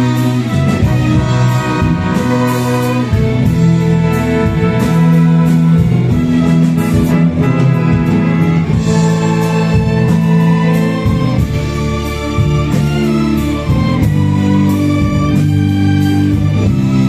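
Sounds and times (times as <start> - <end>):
orchestra strings bowing chords: 0.0 - 17.0.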